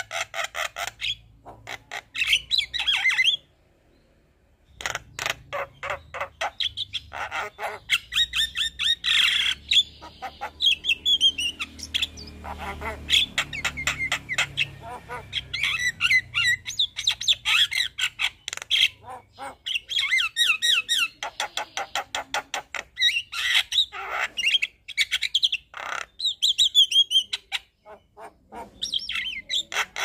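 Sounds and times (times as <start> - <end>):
bird squawks: 0.0 - 3.5, 4.6 - 30.0.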